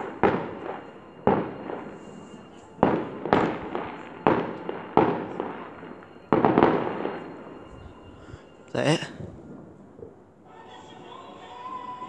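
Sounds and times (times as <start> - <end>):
fireworks exploding with echo: 0.0 - 11.2.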